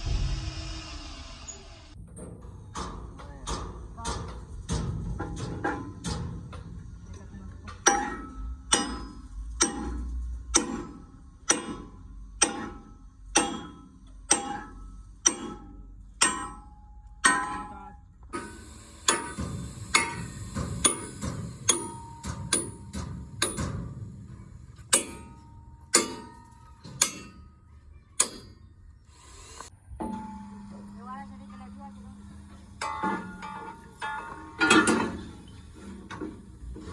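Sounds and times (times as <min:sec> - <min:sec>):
hammer striking steel: 0:02.2 - 0:06.8, 0:07.7 - 0:27.6, 0:28.2 - 0:28.7, 0:30.0 - 0:36.3.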